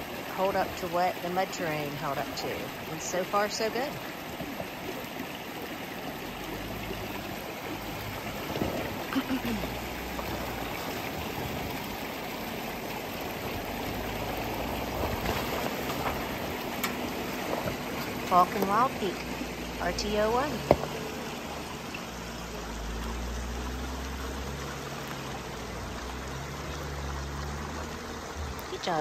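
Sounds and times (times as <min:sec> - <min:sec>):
creek running over rocks: 0:00.0 - 0:29.0
car engine at low speed: 0:03.8 - 0:29.0.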